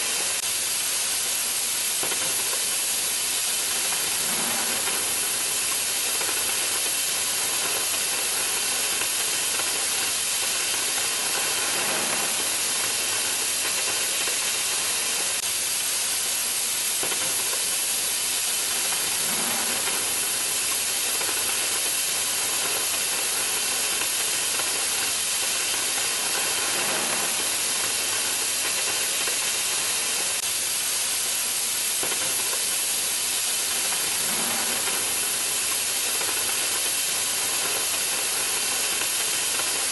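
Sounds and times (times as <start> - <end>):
cutting torch hissing: 0.0 - 39.9.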